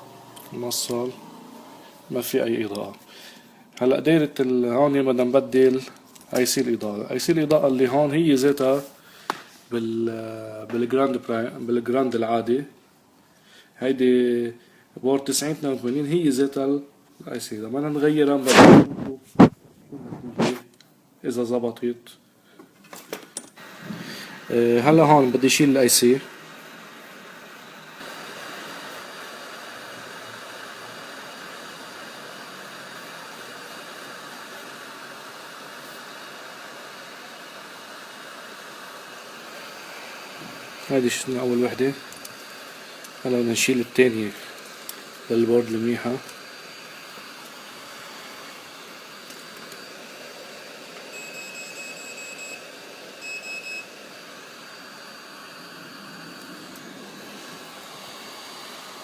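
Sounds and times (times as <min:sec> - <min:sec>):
hot-air rework station hissing: 0:00.0 - 0:12.7, 0:13.4 - 0:20.7, 0:23.0 - 0:59.0.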